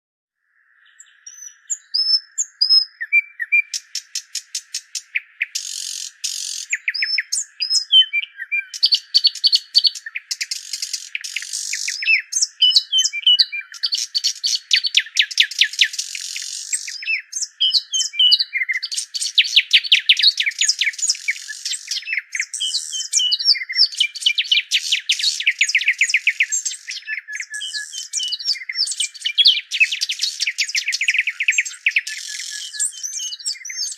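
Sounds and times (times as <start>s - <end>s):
songbirds singing: 0.4s - 33.9s.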